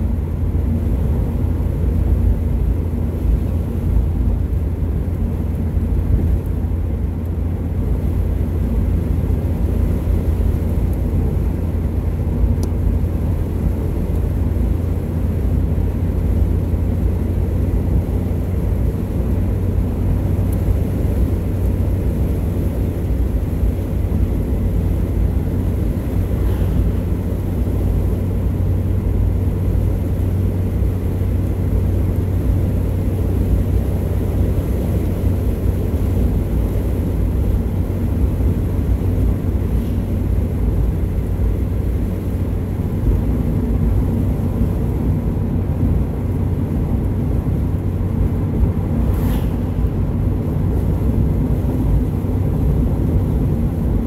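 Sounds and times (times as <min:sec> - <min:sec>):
car interior road noise: 0:00.0 - 0:54.0.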